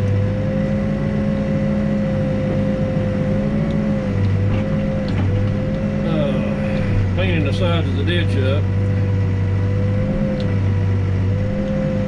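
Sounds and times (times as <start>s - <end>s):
diesel engine running: 0.0s - 12.0s
wavering whine: 0.0s - 12.0s.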